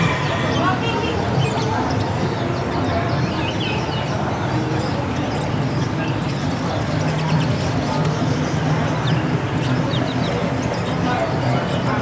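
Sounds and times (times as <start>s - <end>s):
hum of background voices: 0.0s - 12.0s
songbirds chirping: 0.0s - 12.0s.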